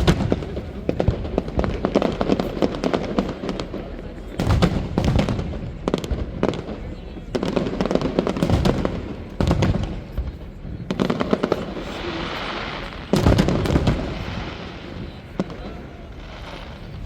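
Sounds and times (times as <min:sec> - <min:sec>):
firework bangs: 0:00.0 - 0:17.0
firework crackling spray: 0:00.0 - 0:17.0
small firework pops: 0:00.0 - 0:17.0.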